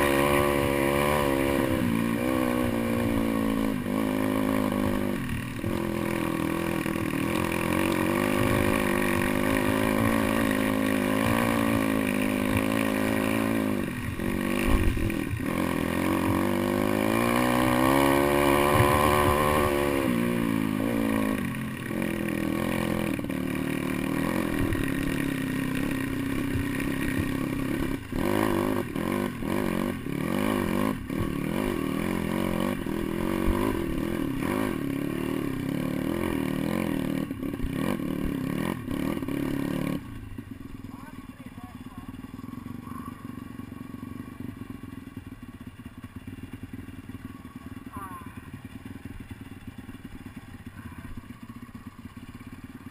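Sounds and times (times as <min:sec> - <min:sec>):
pit bike engine revving: 0:00.0 - 0:52.9.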